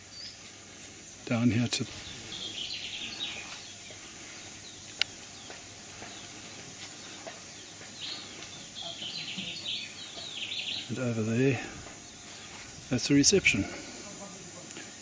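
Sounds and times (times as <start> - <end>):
birds chattering: 0.0 - 15.0.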